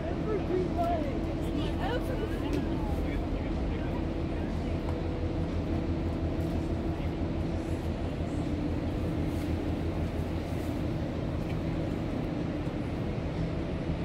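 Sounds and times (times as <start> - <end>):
ship machinery rumble: 0.0 - 14.0.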